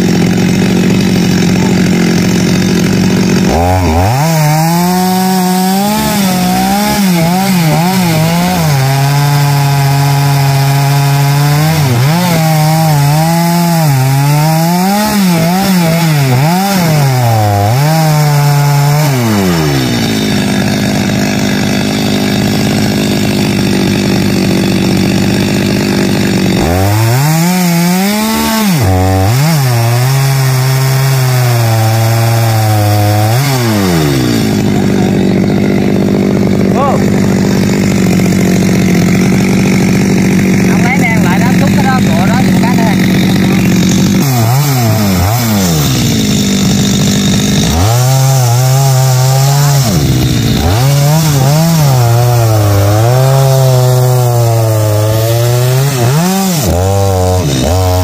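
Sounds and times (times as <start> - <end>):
chainsaw sawing wood: 0.0 - 58.0.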